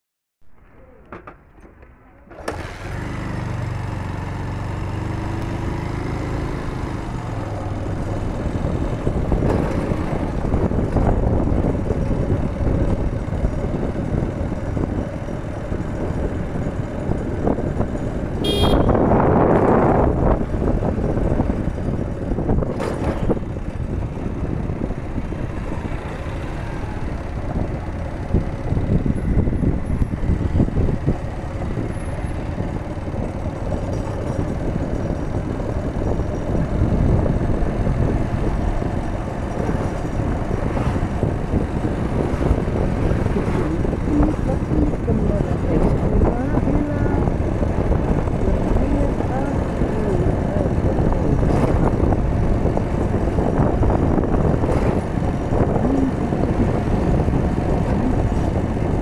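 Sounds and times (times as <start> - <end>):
road and wind noise: 0.5 - 59.0
vehicle engine running: 2.3 - 59.0.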